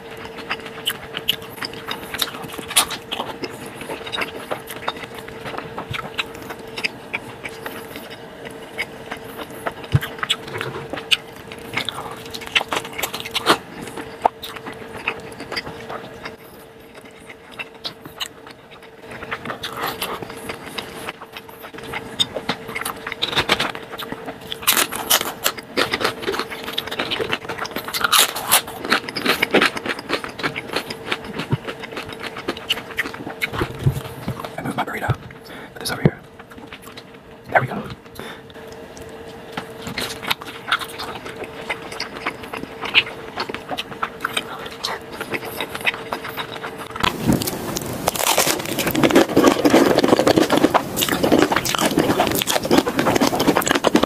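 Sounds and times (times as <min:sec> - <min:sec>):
crunching and chewing food: 0:00.0 - 0:54.0
faint steady hum: 0:00.0 - 0:54.0.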